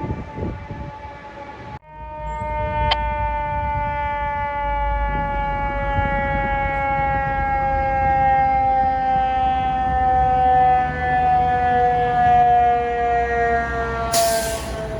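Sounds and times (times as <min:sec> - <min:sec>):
mechanical siren howl: 0:00.0 - 0:14.9.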